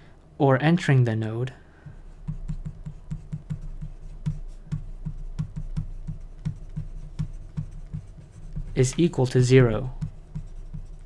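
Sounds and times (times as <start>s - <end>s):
pen scratching on paper: 2.0s - 11.0s.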